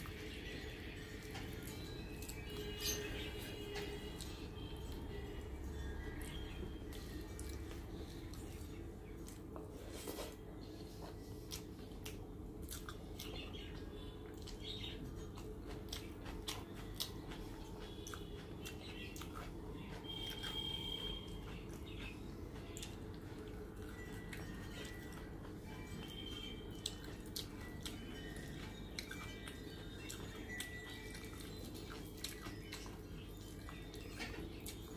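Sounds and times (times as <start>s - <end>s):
chewing: 0.0s - 34.9s
steady low hum: 0.0s - 34.9s.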